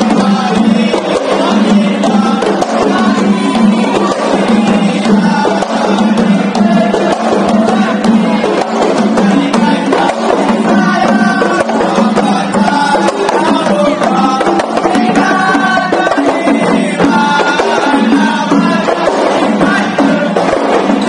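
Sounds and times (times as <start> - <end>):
frame drums beating fast rhythm: 0.0 - 21.0
men singing in chorus: 0.0 - 21.0.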